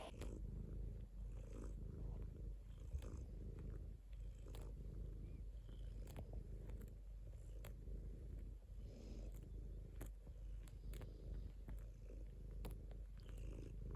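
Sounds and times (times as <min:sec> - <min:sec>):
cat purring: 0:00.0 - 0:13.9.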